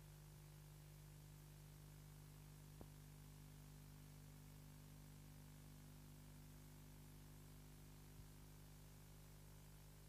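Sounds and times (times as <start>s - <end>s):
faint hum and hiss: 0.0s - 10.0s.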